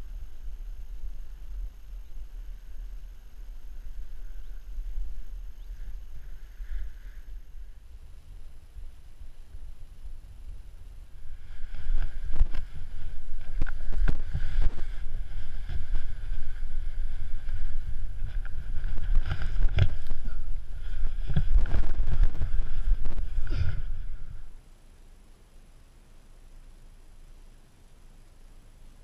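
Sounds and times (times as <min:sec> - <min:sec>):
wind buffeting microphone: 0:00.0 - 0:24.6.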